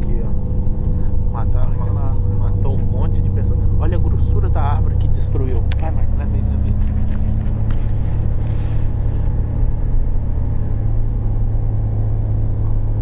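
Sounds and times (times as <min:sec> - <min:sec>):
constant hum: 0:00.0 - 0:13.0
engine and road rumble: 0:00.0 - 0:13.0.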